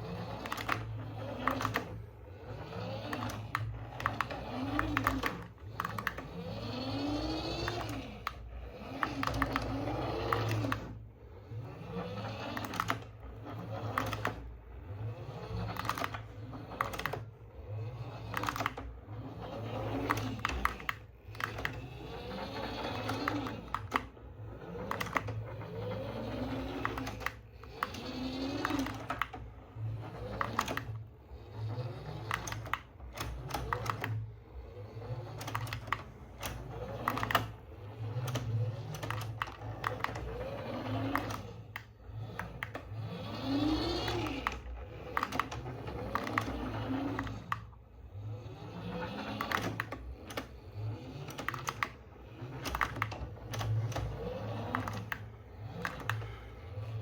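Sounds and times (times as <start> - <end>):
plastic clicks and rattles: 0.0 - 57.0
toy electric motors whining: 0.0 - 57.0.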